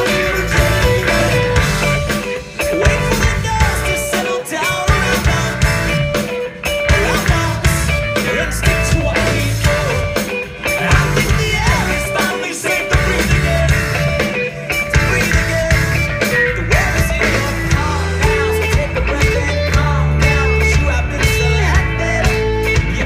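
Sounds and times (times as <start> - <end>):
drum beat: 0.0 - 23.0
electric guitar: 0.0 - 23.0
heavy bass notes: 0.0 - 23.0
keyboard: 0.0 - 23.0
person singing: 0.0 - 23.0.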